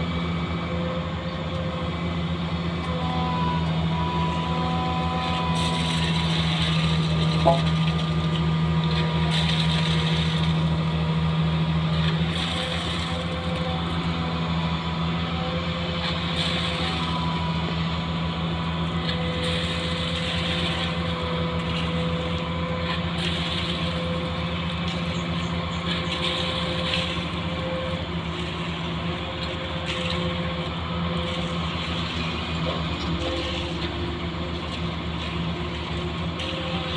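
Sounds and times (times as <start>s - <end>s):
engine droning: 0.0s - 36.9s.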